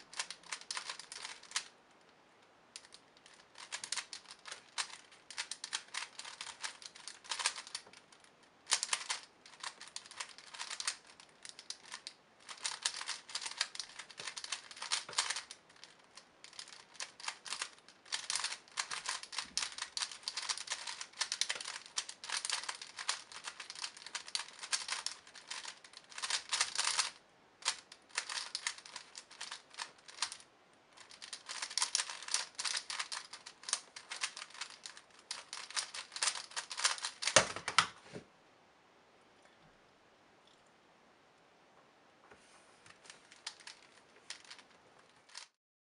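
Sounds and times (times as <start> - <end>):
plastic puzzle clicking: 0.1 - 1.7, 2.7 - 8.1, 8.7 - 30.4, 31.0 - 37.9, 43.0 - 45.5.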